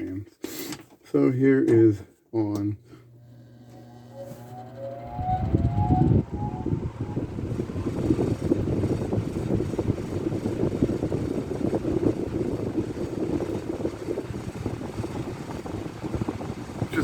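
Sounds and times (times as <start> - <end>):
electric fan running: 2.9 - 17.0.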